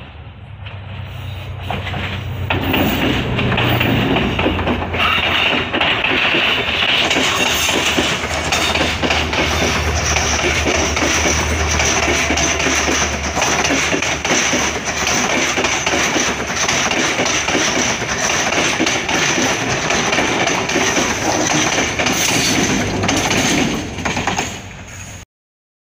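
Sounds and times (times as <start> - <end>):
train wheels rumbling and clicking: 0.0 - 25.2.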